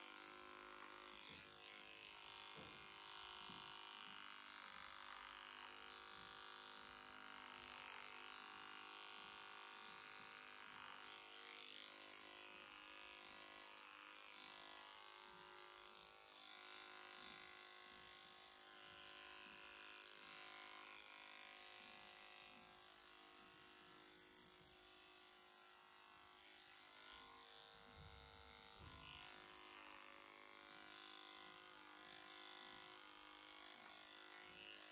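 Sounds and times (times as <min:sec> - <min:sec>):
horse clipper buzzing: 0:00.0 - 0:34.9.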